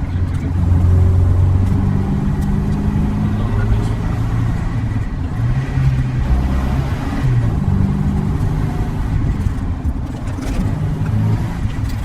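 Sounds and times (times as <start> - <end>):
car engine running while driving: 0.0 - 12.0.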